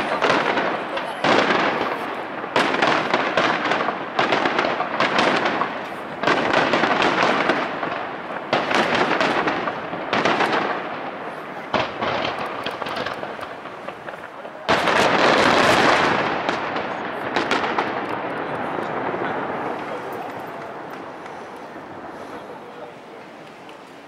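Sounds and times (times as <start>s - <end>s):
firework bursts echoing: 0.0s - 24.0s.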